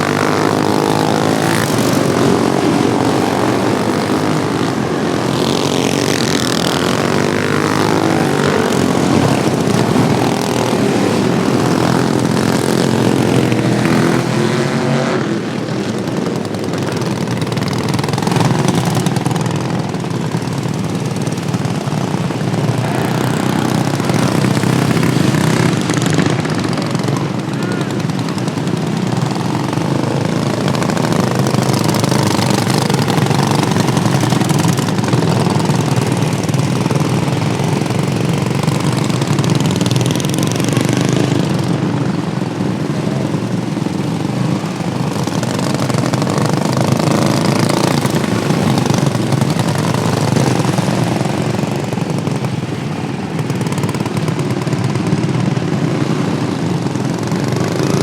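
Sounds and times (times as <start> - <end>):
racing lawnmower engines: 0.0 - 58.0.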